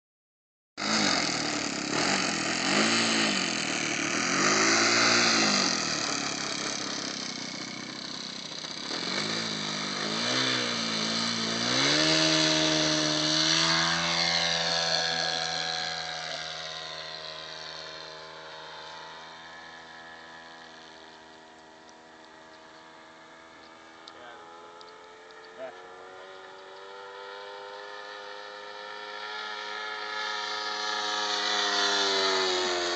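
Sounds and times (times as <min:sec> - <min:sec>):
model airplane motor revving: 0:00.8 - 0:32.9.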